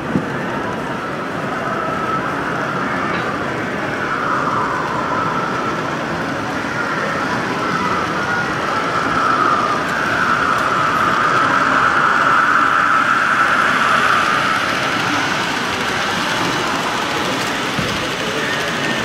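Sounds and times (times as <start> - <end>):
model trains rumbling on track: 0.0 - 19.0.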